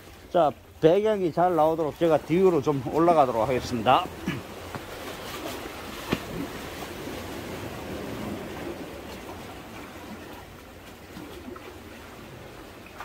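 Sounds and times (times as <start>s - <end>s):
sea water lapping on concrete: 0.0s - 13.0s.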